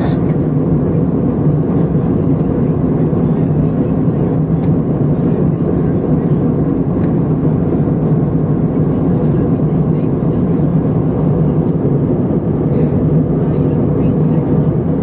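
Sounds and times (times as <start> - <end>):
airliner engine hum: 0.0 - 15.0.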